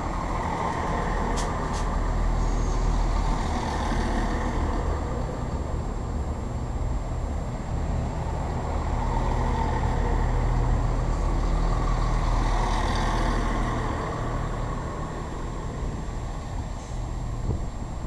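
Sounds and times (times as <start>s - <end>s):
diesel train engines droning: 0.0s - 18.0s
wheel and rail rumble: 0.0s - 18.0s.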